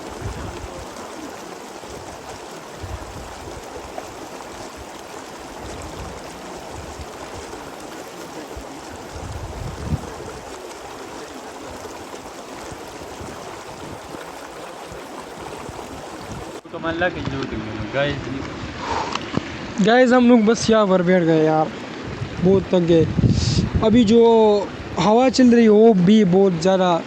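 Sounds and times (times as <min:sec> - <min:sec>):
wind buffeting microphone: 0:00.0 - 0:19.8, 0:21.9 - 0:25.4
stream flowing: 0:00.0 - 0:27.0.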